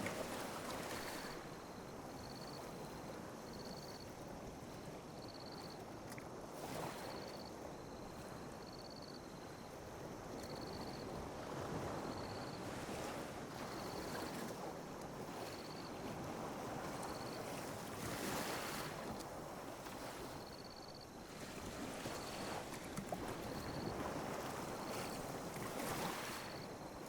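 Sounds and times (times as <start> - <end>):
small waves lapping on beach: 0.0 - 27.0.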